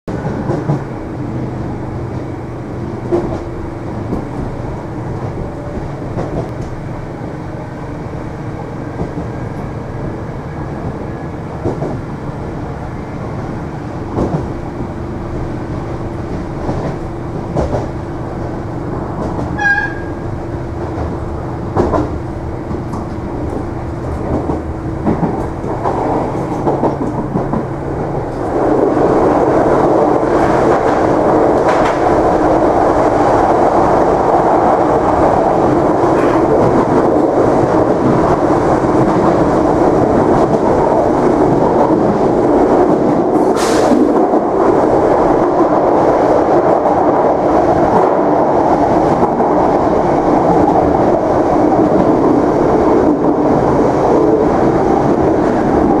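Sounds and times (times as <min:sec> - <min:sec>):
train interior rumble and hum: 0:00.1 - 0:56.0.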